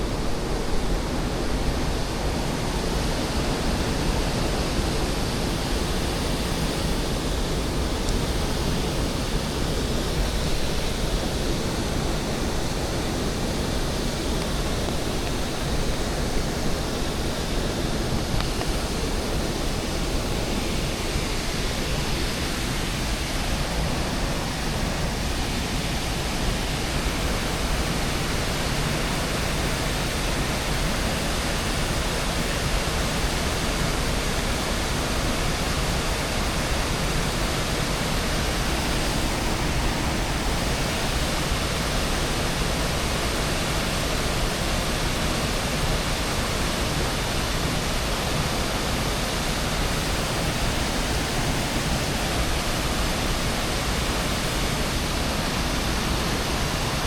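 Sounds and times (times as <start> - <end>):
waterfall roaring into pool: 0.0 - 57.0.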